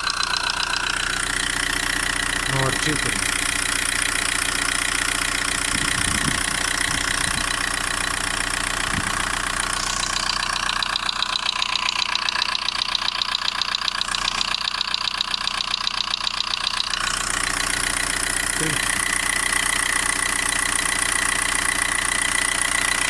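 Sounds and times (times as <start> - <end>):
diesel engine idling: 0.0 - 23.0
rapid ticking from engine: 0.0 - 23.0.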